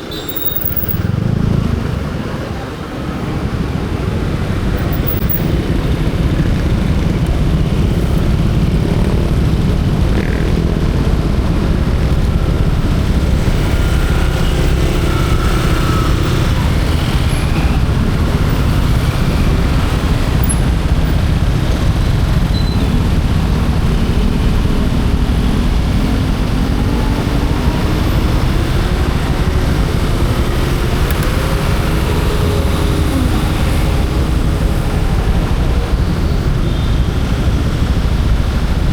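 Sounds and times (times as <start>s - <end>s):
road noise rush: 0.0s - 38.9s
motorcycle engine running: 0.1s - 2.4s, 3.4s - 38.9s.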